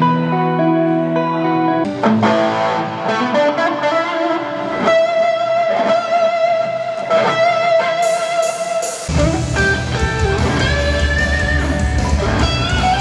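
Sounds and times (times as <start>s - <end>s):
electric guitar lead line: 0.0s - 13.0s.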